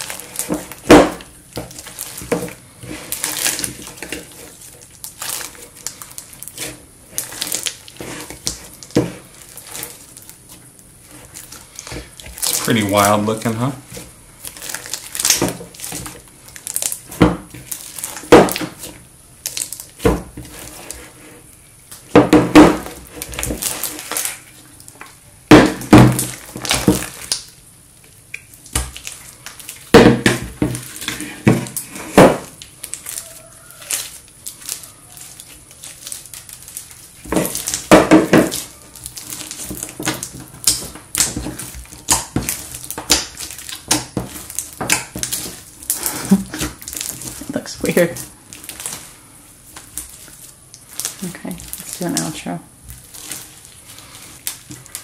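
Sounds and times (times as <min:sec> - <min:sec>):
slime squelching by hand: 0:00.0 - 0:55.0.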